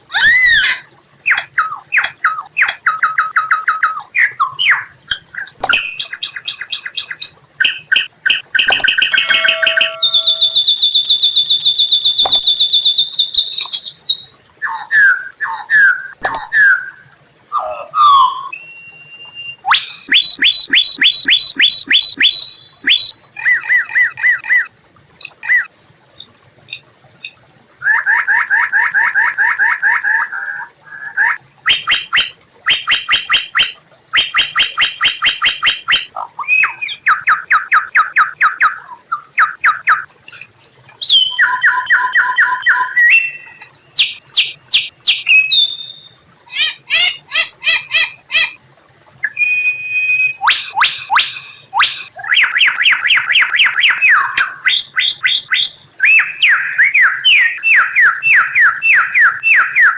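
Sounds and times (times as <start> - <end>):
bird singing varied song: 0.1 - 28.0, 31.1 - 59.9.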